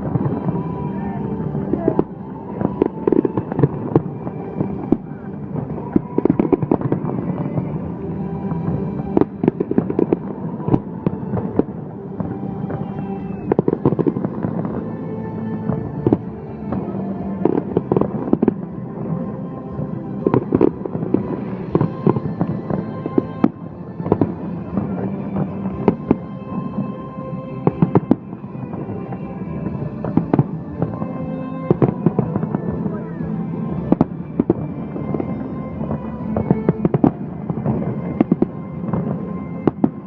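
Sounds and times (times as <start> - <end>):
fireworks bangs: 0.0 - 40.0
music with held notes: 0.0 - 40.0.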